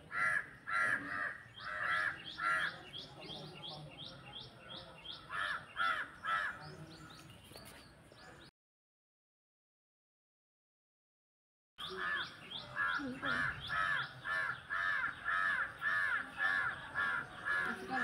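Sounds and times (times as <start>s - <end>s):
harsh bird calls: 0.0s - 8.5s, 11.8s - 18.0s.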